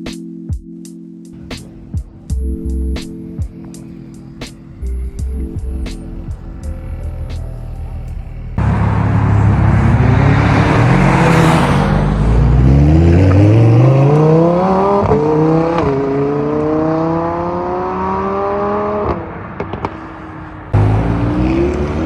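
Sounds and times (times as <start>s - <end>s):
car engine accelerating hard: 4.2s - 22.0s.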